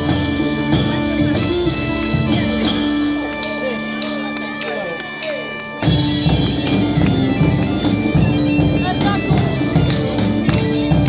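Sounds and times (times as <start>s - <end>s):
bagpipes playing melody: 0.0s - 11.0s
drum beat: 0.0s - 11.0s.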